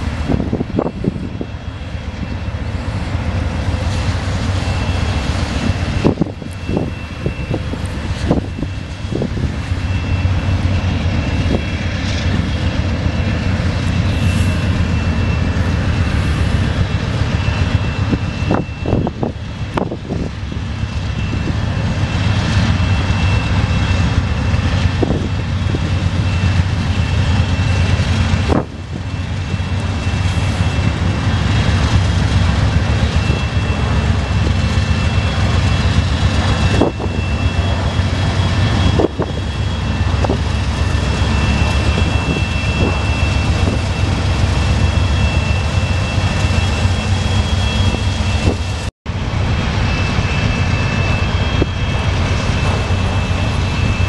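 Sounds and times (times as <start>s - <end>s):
diesel locomotives rumbling: 0.0s - 54.0s.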